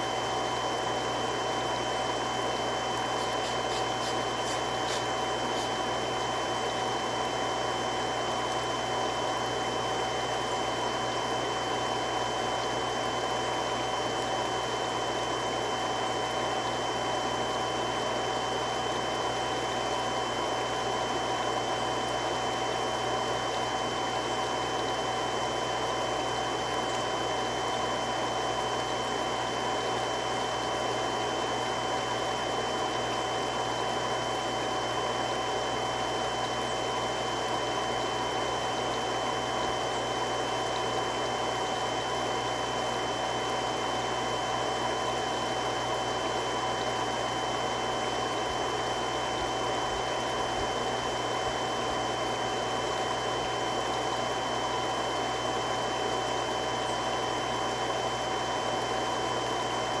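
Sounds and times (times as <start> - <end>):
water pump running: 0.0 - 60.0.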